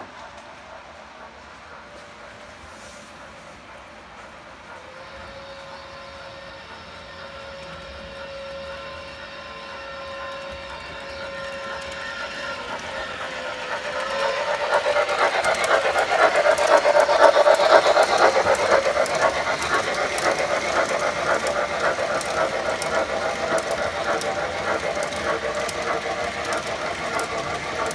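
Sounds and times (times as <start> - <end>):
train wheels clattering on track: 0.0 - 27.9.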